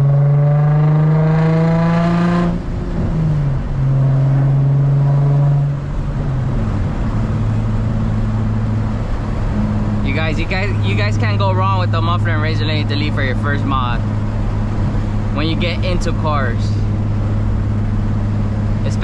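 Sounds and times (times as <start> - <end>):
car exhaust drone: 0.0 - 19.0.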